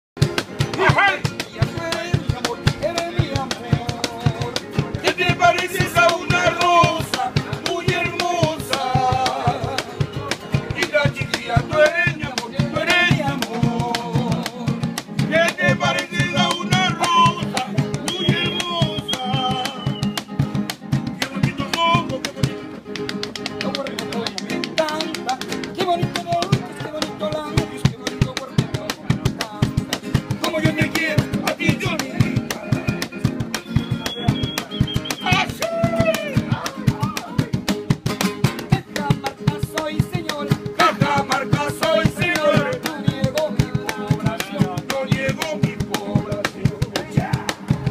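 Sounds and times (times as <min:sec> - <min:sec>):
acoustic guitar: 0:00.2 - 0:47.9
box drum beat: 0:00.2 - 0:47.9
man singing: 0:00.6 - 0:20.2, 0:21.1 - 0:22.8, 0:23.6 - 0:37.5, 0:38.5 - 0:47.9.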